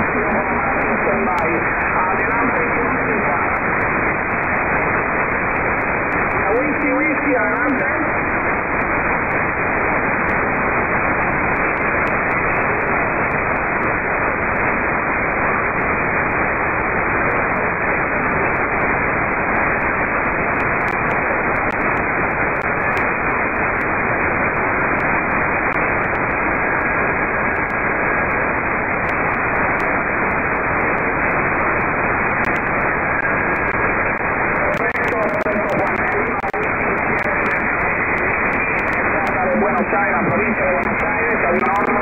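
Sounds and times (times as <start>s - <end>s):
radio static hiss: 0.0s - 42.0s.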